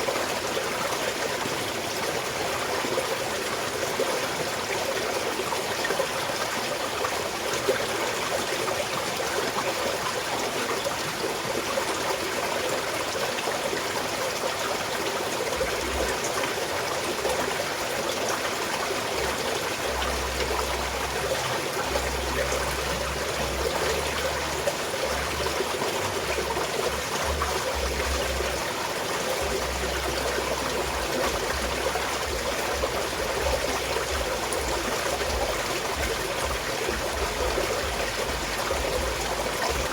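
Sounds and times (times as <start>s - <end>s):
mountain stream trickling: 0.0s - 39.9s.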